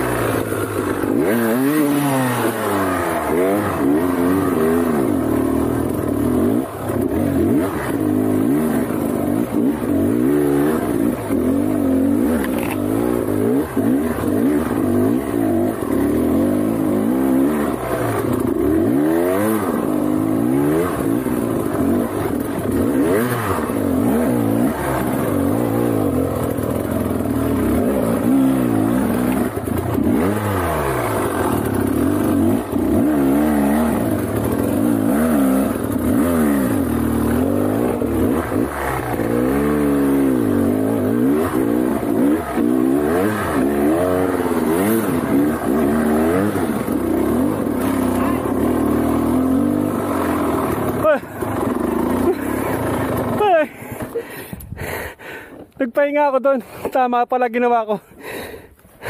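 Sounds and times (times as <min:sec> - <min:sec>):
motorcycle engine revving: 0:00.0 - 0:55.1.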